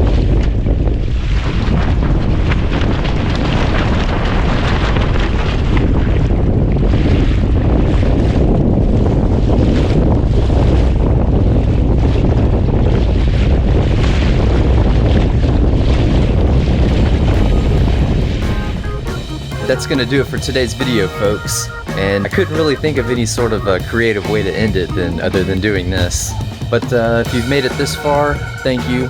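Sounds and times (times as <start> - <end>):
water washing along boat hull: 0.0 - 29.0
wind buffeting microphone: 0.0 - 29.0.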